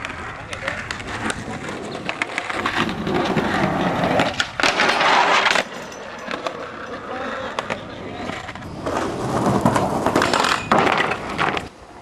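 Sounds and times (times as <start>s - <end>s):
skateboard clacks: 0.0s - 12.0s
skateboard rolling and scraping: 0.0s - 12.0s.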